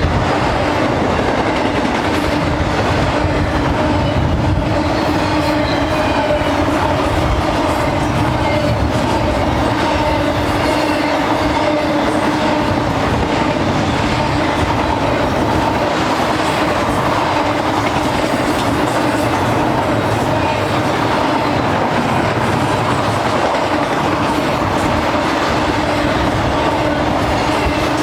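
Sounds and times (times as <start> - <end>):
freight train cars rolling: 0.0 - 28.0.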